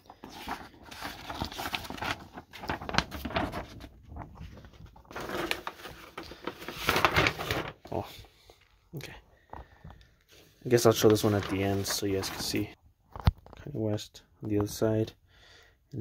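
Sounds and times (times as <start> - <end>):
paper rustling and crinkling: 0.0 - 8.7, 9.4 - 13.6.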